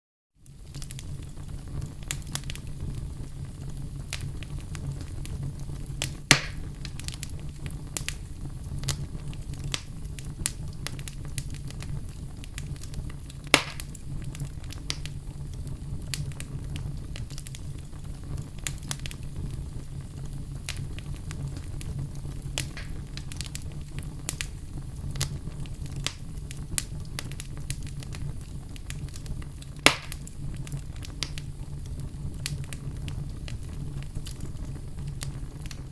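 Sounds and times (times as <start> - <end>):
fire popping: 0.4 - 35.9
wood fire crackling: 0.4 - 35.9.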